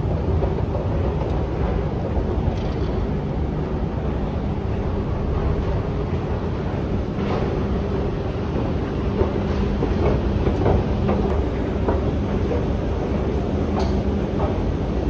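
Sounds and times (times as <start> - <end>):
vehicle rumble and hum: 0.0 - 14.5.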